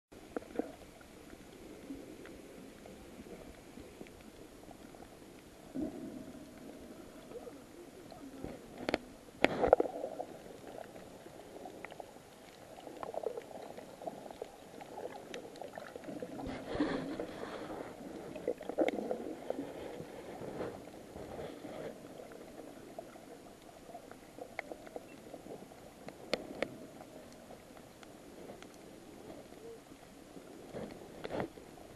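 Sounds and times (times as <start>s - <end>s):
muffled underwater water noise: 0.1s - 31.9s.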